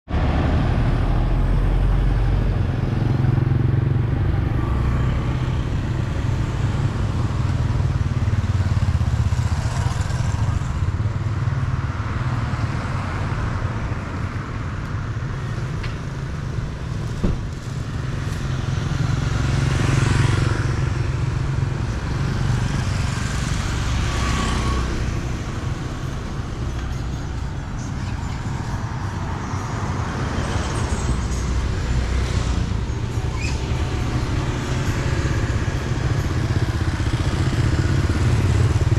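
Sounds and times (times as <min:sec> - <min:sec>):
low rumble of engines: 0:00.1 - 0:38.9
vehicles passing: 0:00.1 - 0:38.9.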